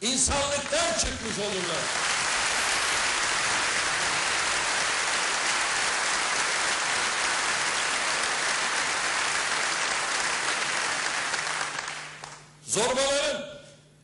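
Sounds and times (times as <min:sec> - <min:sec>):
audience applause: 0:00.2 - 0:12.5.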